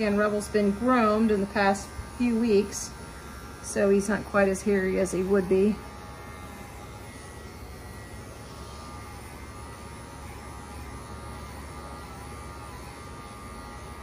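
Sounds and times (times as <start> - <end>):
electric clippers buzzing: 0.0 - 14.0.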